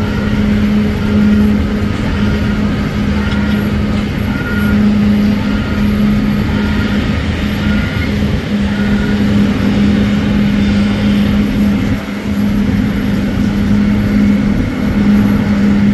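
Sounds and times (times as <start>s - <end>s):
jet engines idling: 0.0s - 15.9s.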